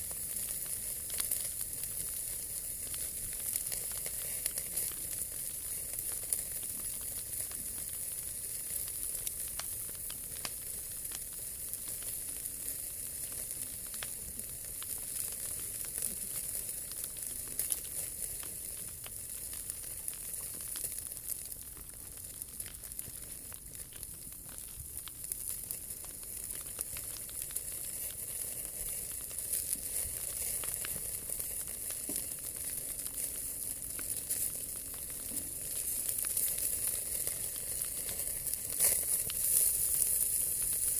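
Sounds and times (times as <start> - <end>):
wood fire crackling and hissing: 0.0 - 40.9.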